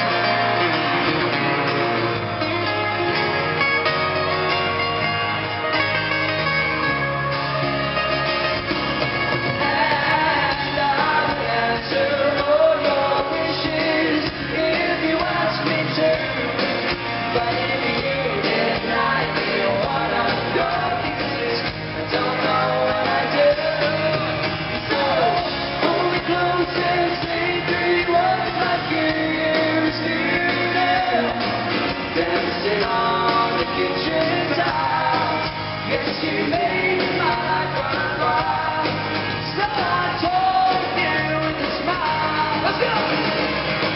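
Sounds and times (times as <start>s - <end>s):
live pop-rock band playing: 0.0s - 43.9s.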